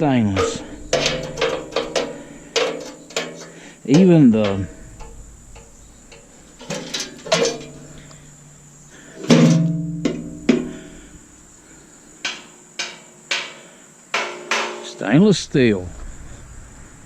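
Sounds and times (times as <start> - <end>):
steel parts clanking with ringing tone: 0.0 - 11.3, 12.2 - 15.0.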